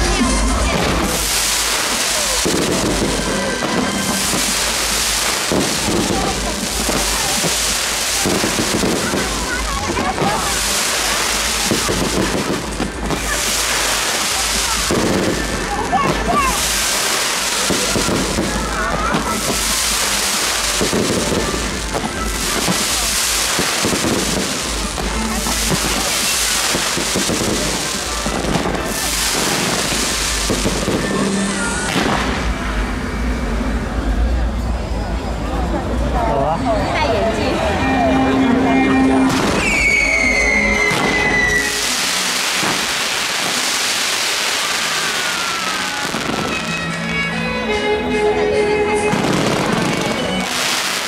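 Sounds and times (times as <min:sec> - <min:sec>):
fireworks crackling: 0:00.0 - 0:51.0.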